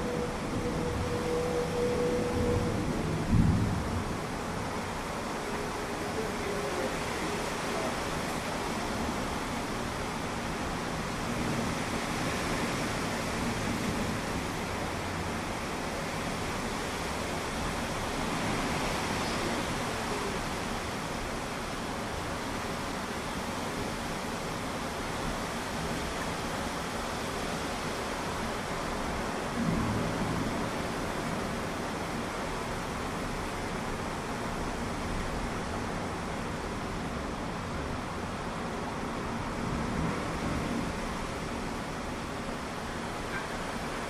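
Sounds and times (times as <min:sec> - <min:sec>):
rain: 0:00.0 - 0:44.0
storm wind: 0:00.0 - 0:44.0.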